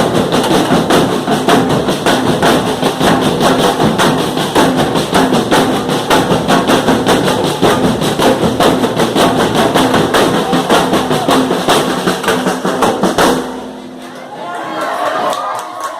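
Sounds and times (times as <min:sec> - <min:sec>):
fast drum beats: 0:00.0 - 0:13.8.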